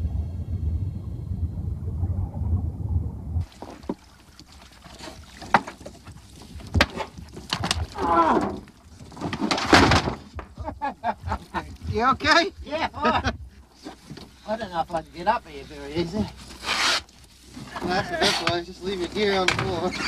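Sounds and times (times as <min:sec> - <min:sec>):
water splashing: 0:01.4 - 0:20.0.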